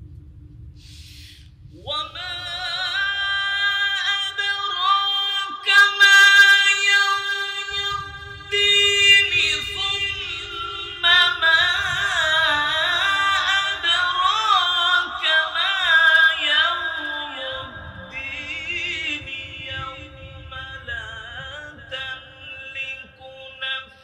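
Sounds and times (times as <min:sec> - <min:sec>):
man chanting recitation: 0:01.7 - 0:24.0.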